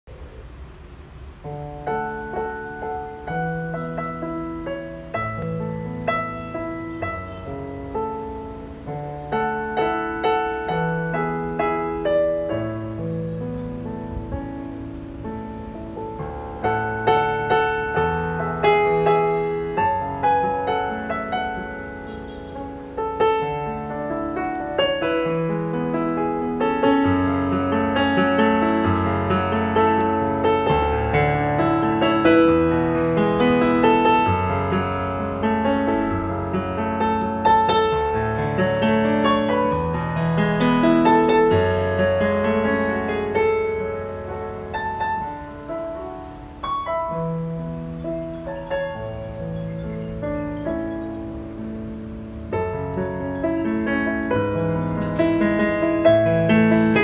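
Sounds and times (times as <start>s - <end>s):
digital piano playing melody and chords: 0.1s - 57.0s.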